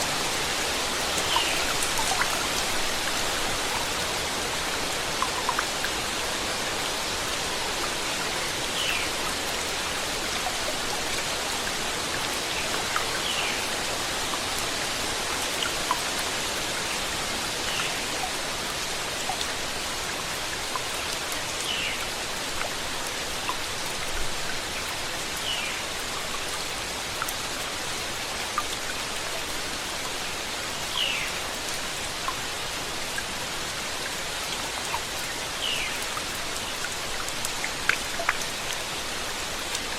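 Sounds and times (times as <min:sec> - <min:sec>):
raindrops ticking on a surface: 0:00.0 - 0:39.9
steady rain: 0:00.0 - 0:39.9.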